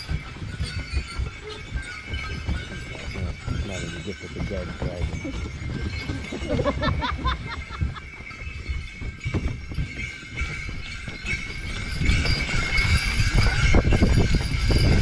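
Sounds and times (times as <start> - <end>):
horse hooves thudding in snow: 0.0 - 15.0
sleigh bells jingling: 0.0 - 15.0.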